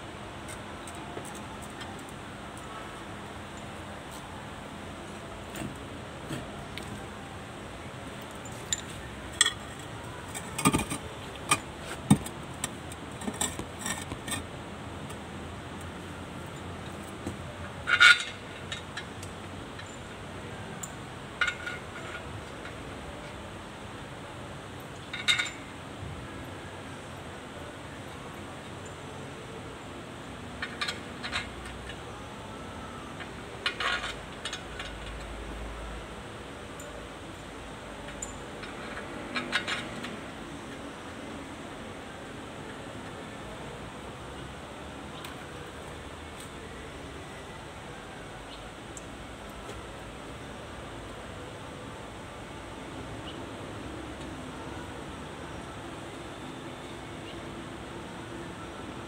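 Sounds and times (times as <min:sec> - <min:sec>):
steady background hiss: 0:00.0 - 0:59.0
steady low background noise: 0:00.0 - 0:59.0.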